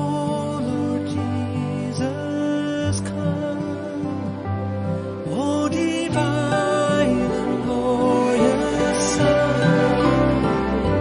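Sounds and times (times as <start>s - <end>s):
slow gentle background music: 0.0s - 11.0s.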